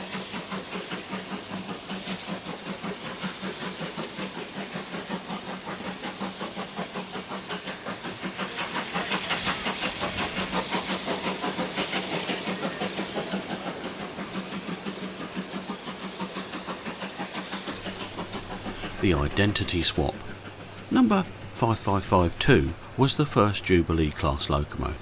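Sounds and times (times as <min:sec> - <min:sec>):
steam locomotive chuffing: 0:00.0 - 0:25.0.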